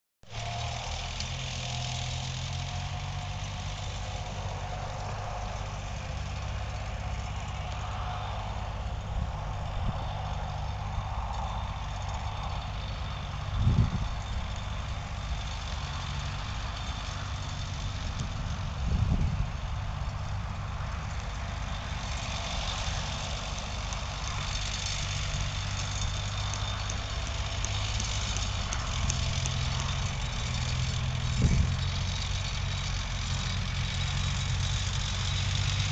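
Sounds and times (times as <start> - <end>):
tractor engine running: 0.3 - 35.9.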